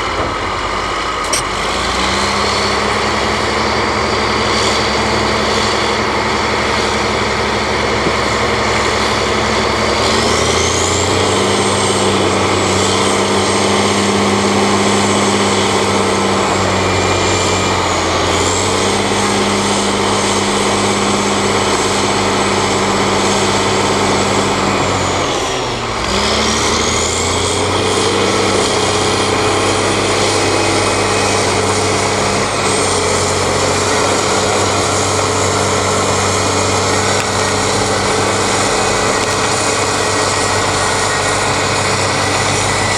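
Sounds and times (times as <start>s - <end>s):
bulldozer diesel engine revving: 0.0s - 42.9s
high whine: 0.0s - 42.9s.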